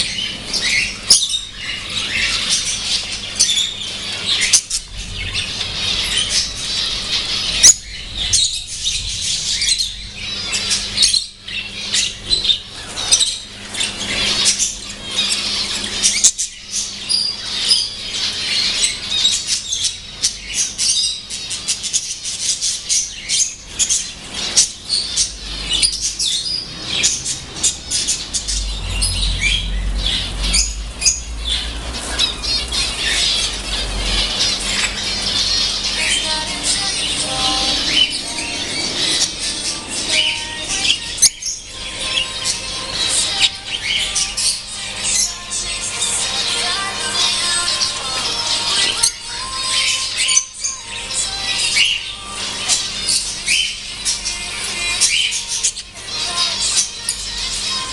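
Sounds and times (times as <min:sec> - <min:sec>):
bird squawks: 0:00.0 - 0:57.9
lovebirds chirping and chattering: 0:00.0 - 0:57.9.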